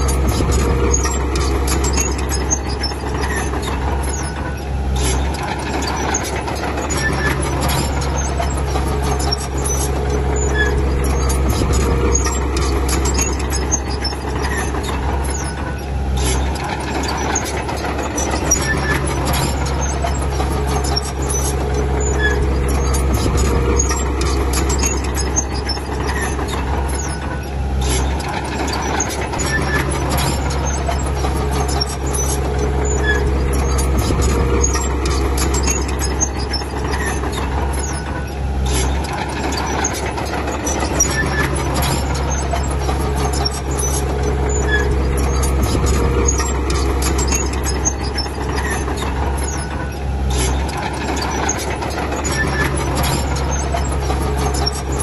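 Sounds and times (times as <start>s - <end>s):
bulldozer diesel engine: 0.0s - 55.0s
metallic clicking and squeaking: 0.0s - 55.0s.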